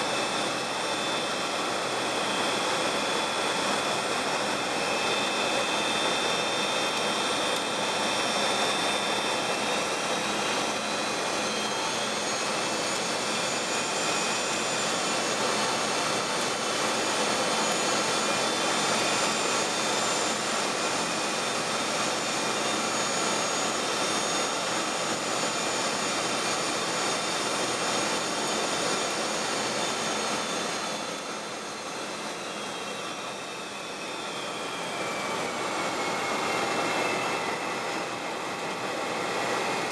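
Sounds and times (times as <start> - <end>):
jet engine whine and airflow: 0.0 - 39.9.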